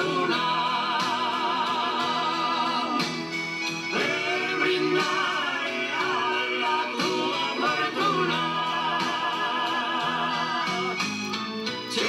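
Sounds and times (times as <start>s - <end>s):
male trio singing in harmony: 0.0s - 12.0s.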